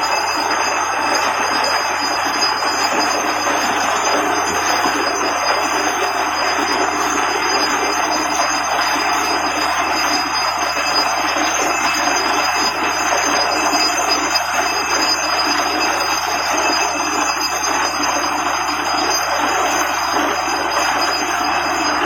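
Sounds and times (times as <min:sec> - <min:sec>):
drilling rig running: 0:00.0 - 0:22.0
thin high whine: 0:00.0 - 0:22.0.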